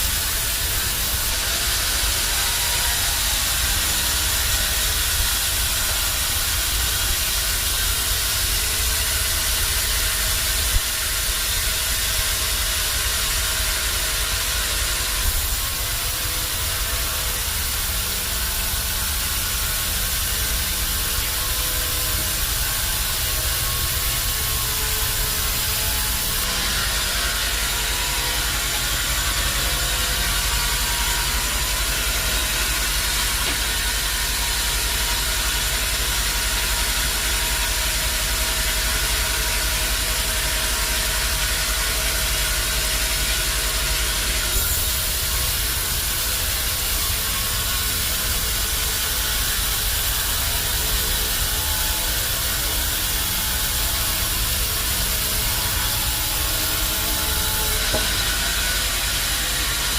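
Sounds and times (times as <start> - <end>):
band sawmill hum and hiss: 0.0 - 59.9.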